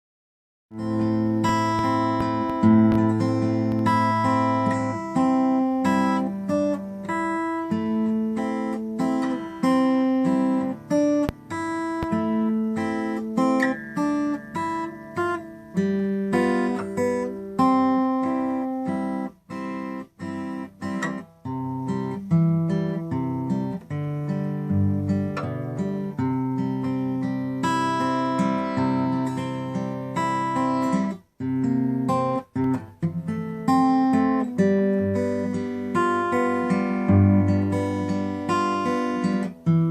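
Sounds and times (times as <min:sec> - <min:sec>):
acoustic guitar slow tune: 0:00.7 - 0:39.9.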